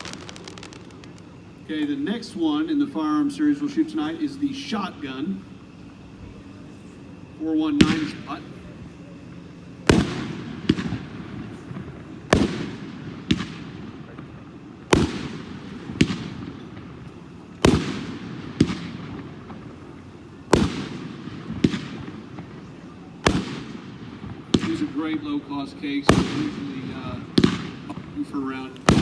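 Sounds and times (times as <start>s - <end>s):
firework bangs with echoing rumble: 0.0s - 4.9s, 7.8s - 8.4s, 9.8s - 29.0s.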